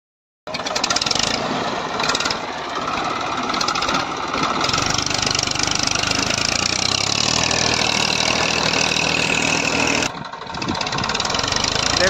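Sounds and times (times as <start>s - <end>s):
tractor diesel engine running: 0.5s - 12.0s.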